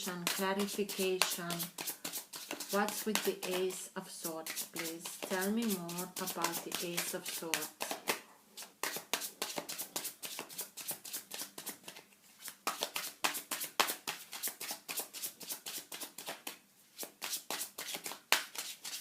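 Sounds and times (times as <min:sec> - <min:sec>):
cards being shuffled: 0:00.2 - 0:03.7, 0:04.4 - 0:19.0.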